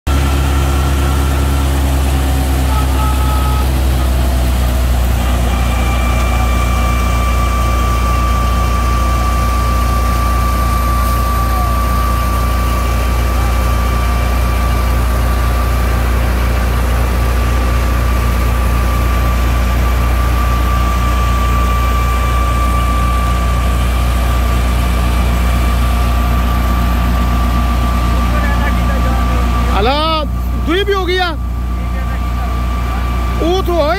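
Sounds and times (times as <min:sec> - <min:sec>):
low engine drone: 0:00.0 - 0:33.9
steady high whine: 0:00.1 - 0:33.9.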